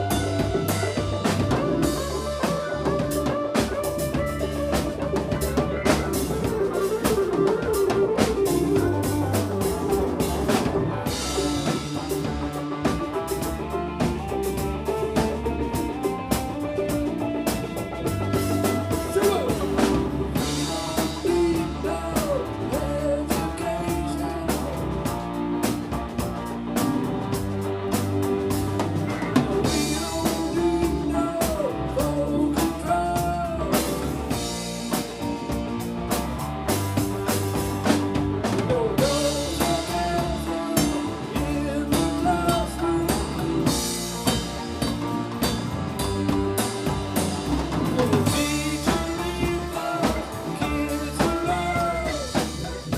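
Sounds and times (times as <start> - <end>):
funk band playing: 0.0 - 52.9
sliding bending lead notes: 0.0 - 52.9.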